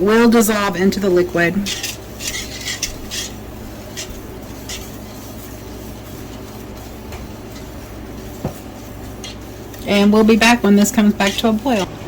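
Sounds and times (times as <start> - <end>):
steady low hum: 0.0 - 12.0
spoon scraping pot bottom: 1.4 - 12.0.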